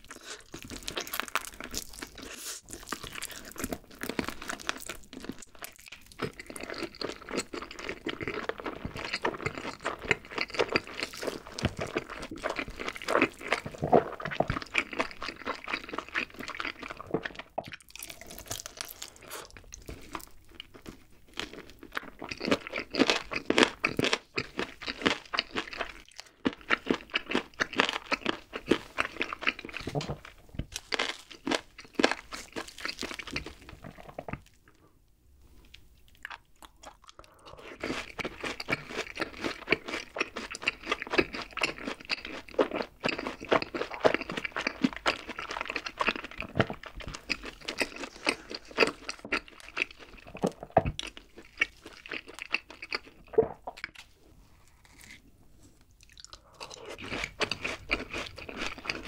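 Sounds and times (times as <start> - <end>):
biting and chewing: 0.0 - 34.6, 36.2 - 59.0.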